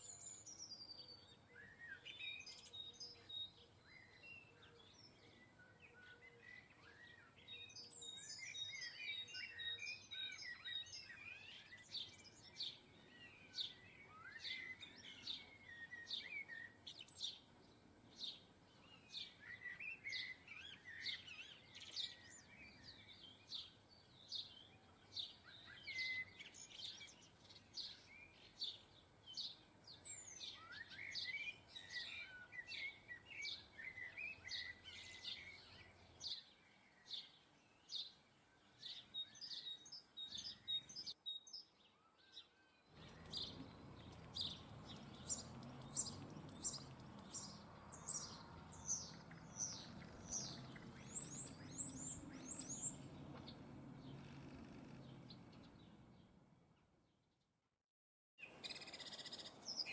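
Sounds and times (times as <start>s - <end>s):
songbirds chirping: 0.0s - 57.5s, 58.4s - 59.9s.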